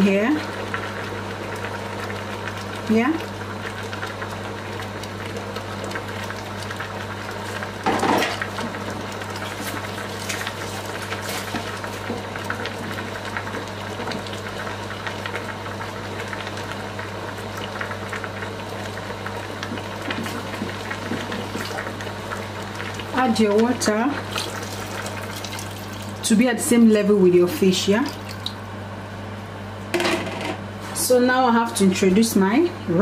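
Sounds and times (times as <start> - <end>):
water boiling in a pot: 0.0 - 29.4.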